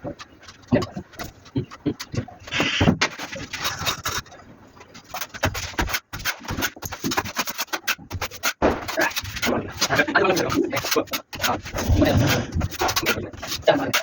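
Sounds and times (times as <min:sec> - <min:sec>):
trowel scraping plaster: 0:00.1 - 0:04.4, 0:05.0 - 0:14.0.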